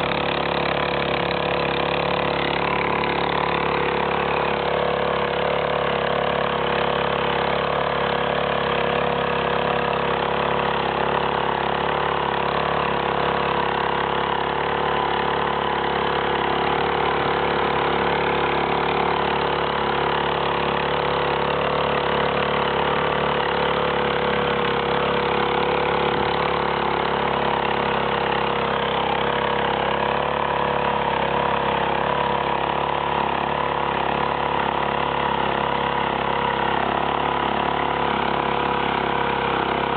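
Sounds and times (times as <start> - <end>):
machine engine humming and whining: 0.0 - 39.9.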